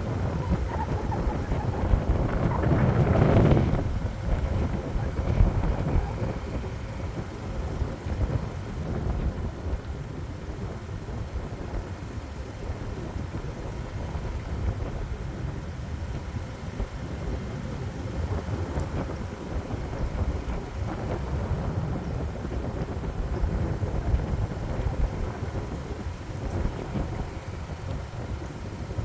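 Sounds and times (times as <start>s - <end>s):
vehicle road noise: 0.0s - 29.0s
wind buffeting microphone: 0.0s - 29.0s.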